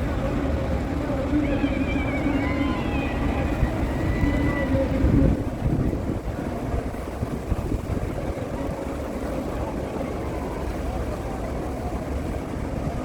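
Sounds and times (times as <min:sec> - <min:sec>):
faint voices talking: 0:00.0 - 0:13.0.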